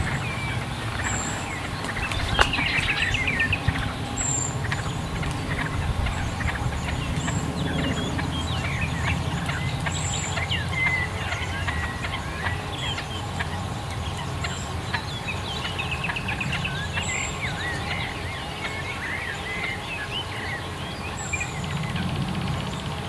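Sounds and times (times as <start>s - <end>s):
small birds singing: 0.0s - 23.0s
steady low rumble: 0.0s - 23.0s.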